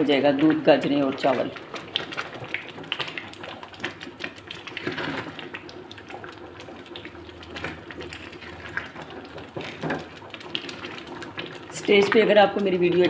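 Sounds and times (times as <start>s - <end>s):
spatula stirring: 0.0s - 13.0s
thick pudding bubbling and popping: 0.0s - 13.0s.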